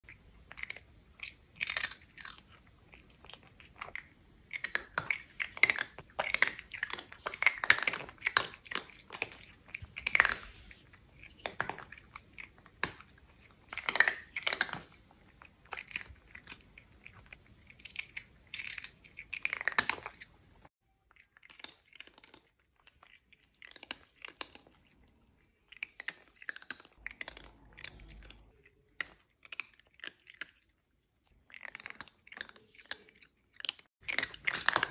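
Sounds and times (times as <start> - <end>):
cat chewing crunchy food: 0.1 - 34.9.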